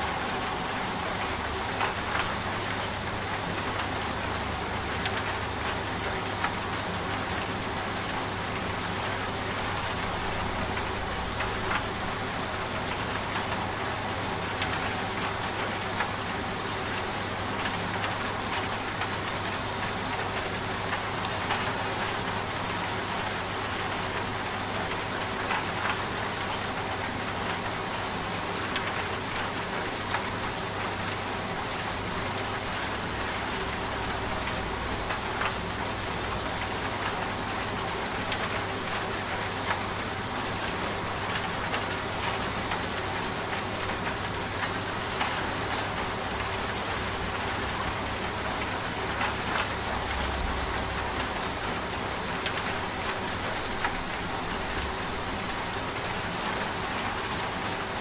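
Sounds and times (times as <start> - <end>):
steady rain: 0.0 - 58.0
washing machine humming: 0.0 - 58.0.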